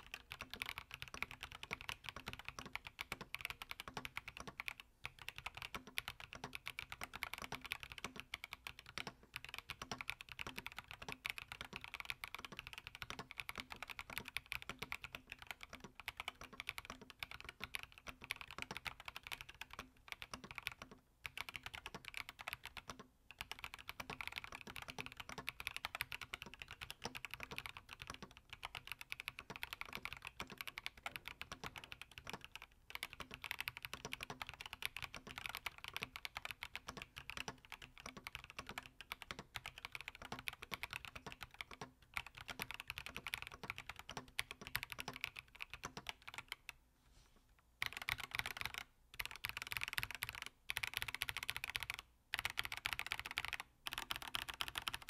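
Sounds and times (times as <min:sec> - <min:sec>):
mechanical keyboard typing: 0:00.0 - 0:46.8, 0:47.8 - 0:55.0.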